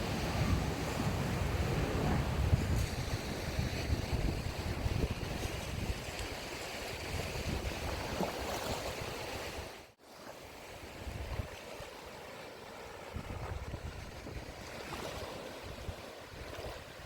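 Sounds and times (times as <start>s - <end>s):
wind buffeting microphone: 0.0s - 9.7s, 10.9s - 11.6s, 12.8s - 17.0s
small waves washing on shore: 0.0s - 17.0s.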